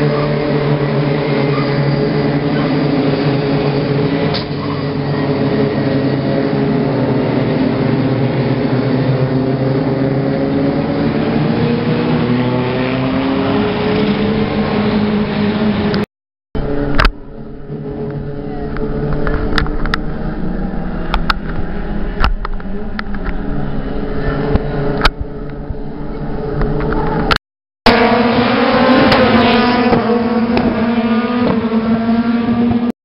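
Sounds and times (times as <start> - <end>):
racing car engines passing: 0.0 - 16.0, 16.6 - 27.3, 27.9 - 32.9.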